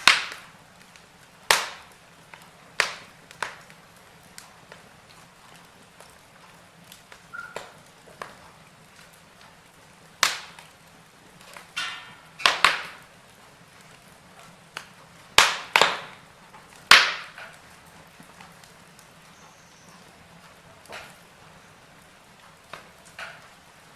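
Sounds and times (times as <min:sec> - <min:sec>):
faint steady hiss: 0:00.0 - 0:23.9
logs crackling in fireplace: 0:00.0 - 0:23.9
sharp pops of burning wood: 0:00.0 - 0:23.9.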